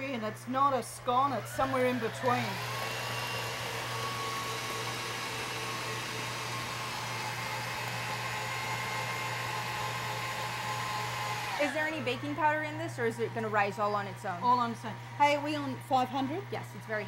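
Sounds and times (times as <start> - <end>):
stand mixer whirring: 0.0 - 16.7.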